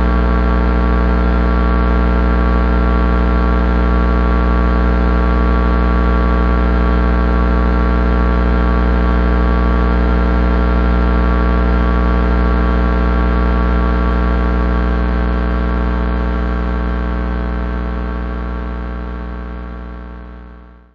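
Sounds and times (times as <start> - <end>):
electrical transformer hum: 0.0 - 19.0.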